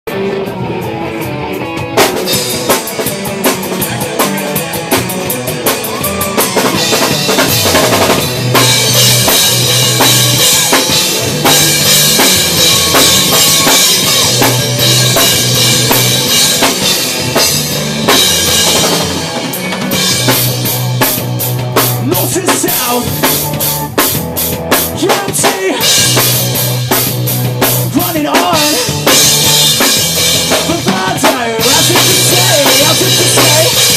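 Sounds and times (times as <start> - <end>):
rock band playing live: 0.0 - 33.9
loud drum kit: 0.1 - 33.9.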